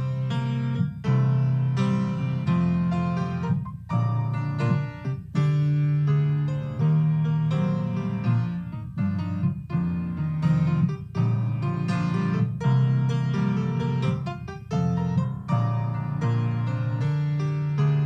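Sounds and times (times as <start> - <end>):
slow piano tune: 0.0 - 18.0.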